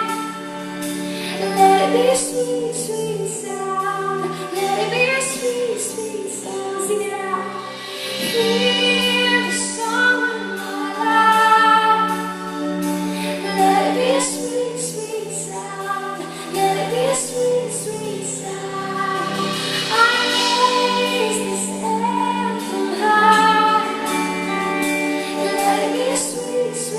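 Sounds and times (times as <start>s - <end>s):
sustained backing music: 0.0s - 26.9s
woman singing: 0.0s - 26.9s.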